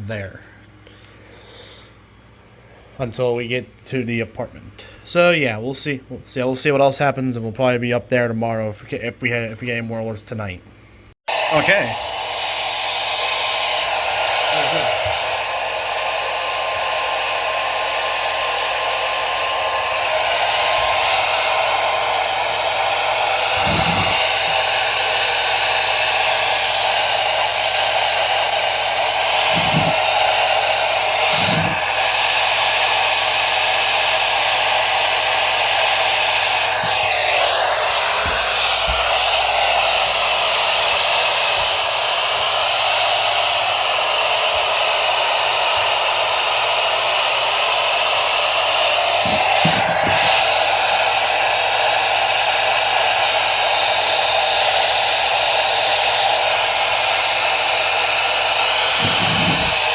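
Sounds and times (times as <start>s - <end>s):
radio static hiss: 11.3s - 59.9s.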